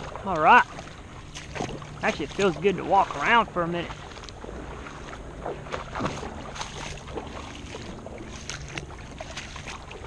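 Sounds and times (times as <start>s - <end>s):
footsteps wading through mud: 0.0s - 10.0s.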